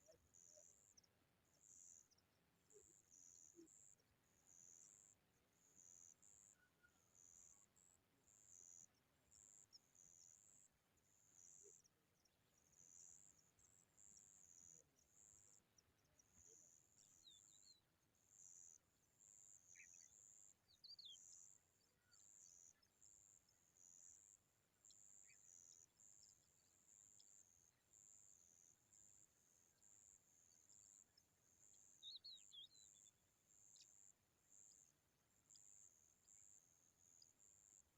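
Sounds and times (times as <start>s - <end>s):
faint bird chirps: 0.0s - 37.9s.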